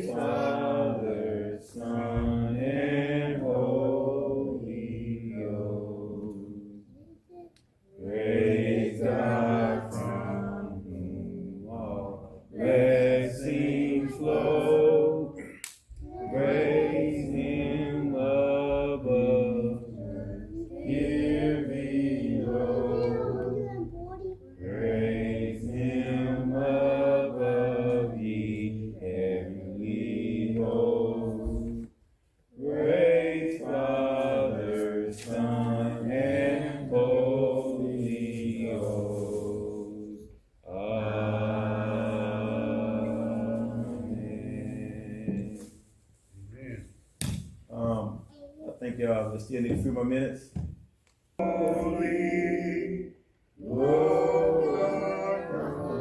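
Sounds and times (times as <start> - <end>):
congregation singing a hymn: 0.0 - 7.0, 7.8 - 46.0, 48.8 - 56.0.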